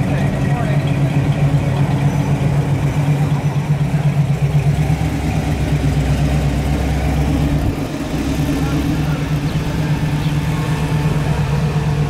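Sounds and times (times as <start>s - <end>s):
car engine low exhaust note: 0.0s - 12.0s.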